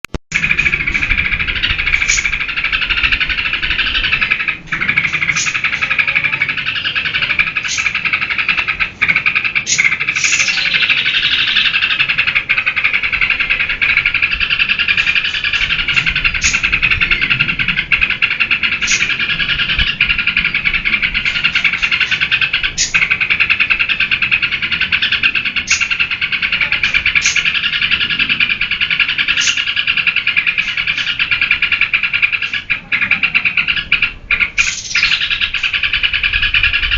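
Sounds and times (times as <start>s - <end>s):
bulbul singing chatter: 0.3s - 36.9s.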